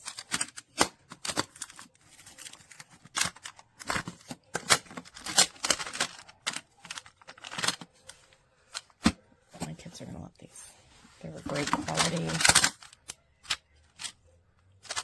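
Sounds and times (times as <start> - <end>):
plastic tiles clacking: 0.0 - 9.1, 11.4 - 14.2, 14.8 - 15.0.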